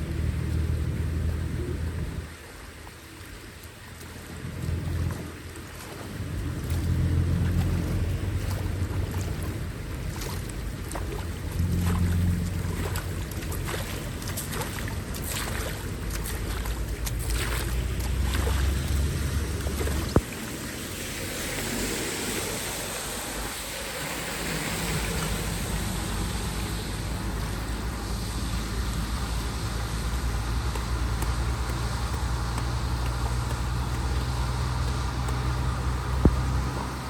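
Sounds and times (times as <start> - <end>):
rushing water: 0.0 - 37.0
wind rumbling on microphone: 0.0 - 37.0.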